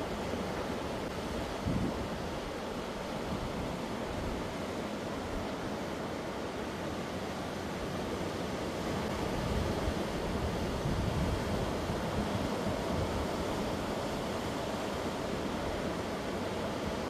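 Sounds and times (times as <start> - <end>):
sea waves surging onto rocks: 0.0 - 17.0.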